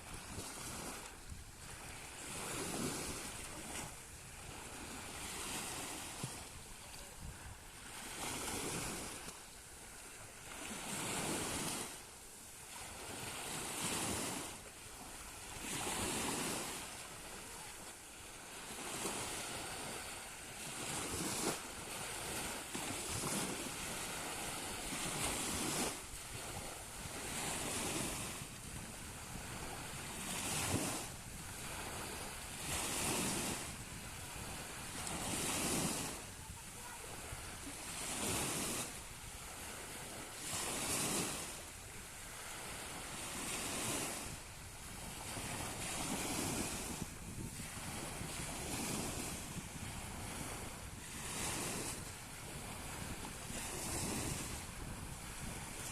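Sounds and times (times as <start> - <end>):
small waves breaking on shore: 0.0 - 55.9.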